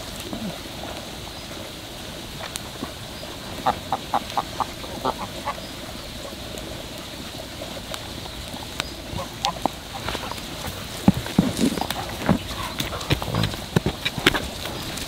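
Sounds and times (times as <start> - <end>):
animal calls: 2.7 - 15.0.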